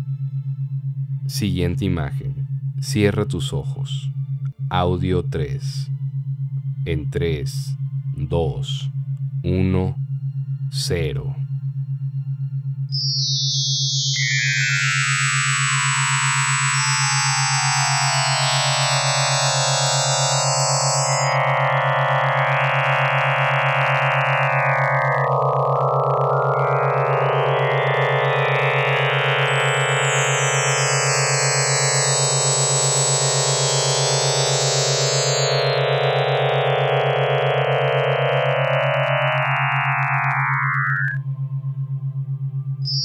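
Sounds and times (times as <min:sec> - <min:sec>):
electronic synthesizer drone: 0:00.0 - 0:43.0.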